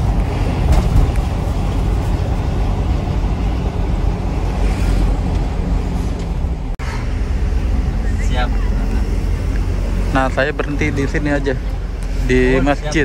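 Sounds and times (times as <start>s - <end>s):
minibus engine and road rumble: 0.0s - 13.0s.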